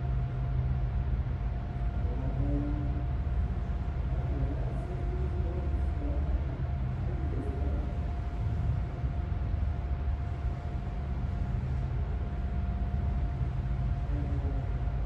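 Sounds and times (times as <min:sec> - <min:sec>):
faint constant hum: 0:00.0 - 0:15.0
low rumble: 0:00.0 - 0:15.0.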